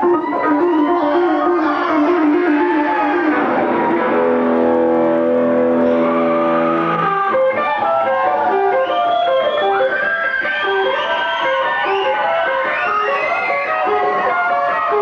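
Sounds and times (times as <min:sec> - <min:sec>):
electric guitar notes and bends: 0:00.0 - 0:15.0
live rock band music: 0:00.0 - 0:15.0.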